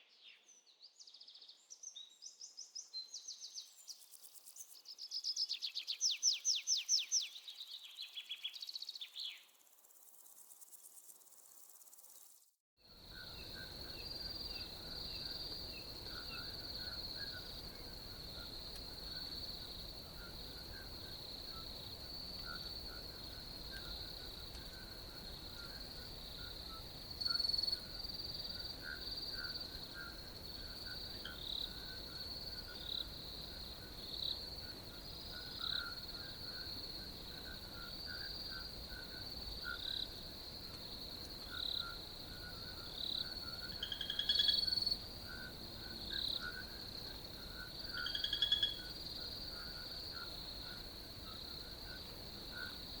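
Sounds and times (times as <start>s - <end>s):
cricket trill: 9.5s - 53.0s.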